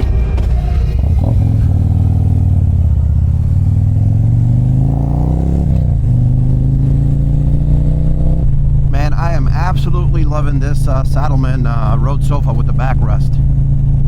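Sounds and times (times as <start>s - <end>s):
motorcycle engine accelerating: 0.8s - 14.0s.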